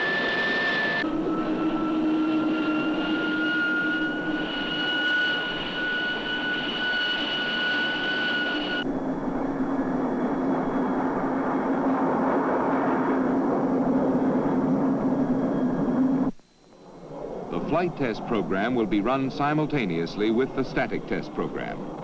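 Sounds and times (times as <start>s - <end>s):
jet engine high whine: 0.0s - 22.0s.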